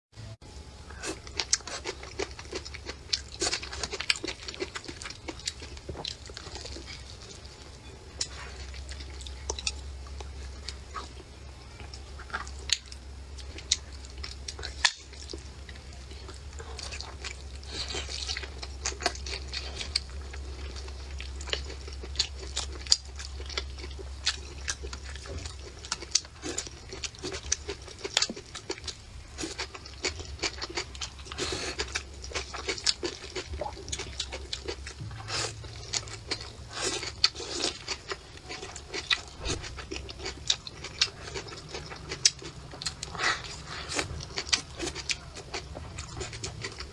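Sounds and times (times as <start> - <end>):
person chewing and lip smacking: 0.9 - 46.9.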